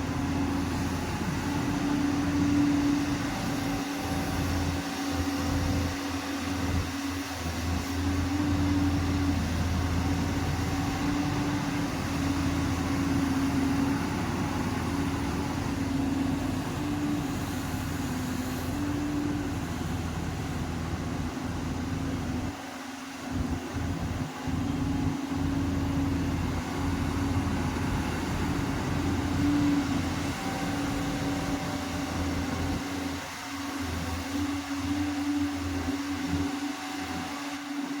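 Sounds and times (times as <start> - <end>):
diesel engine rumble and whine: 0.0 - 38.0.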